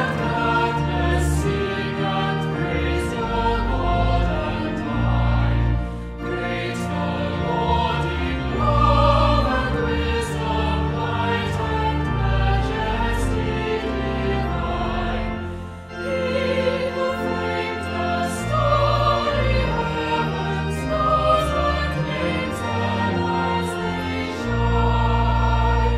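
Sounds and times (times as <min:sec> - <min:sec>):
choir singing: 0:00.0 - 0:25.9
instrumental accompaniment: 0:00.0 - 0:25.9.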